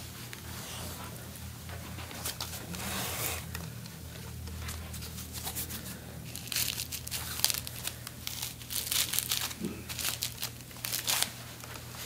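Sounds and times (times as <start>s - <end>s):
clothing and table cover rustling: 0.0s - 12.0s
low steady hum: 0.0s - 12.0s.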